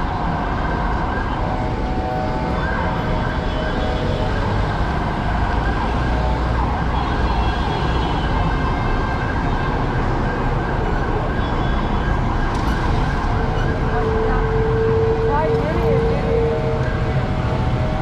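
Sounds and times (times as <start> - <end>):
city street traffic: 0.0 - 18.0
siren wailing: 0.0 - 18.0.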